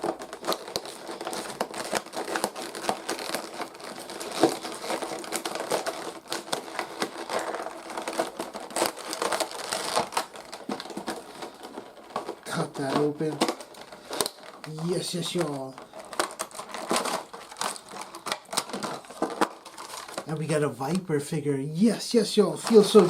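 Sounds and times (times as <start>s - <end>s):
plastic crinkling and rustling: 0.0s - 23.0s.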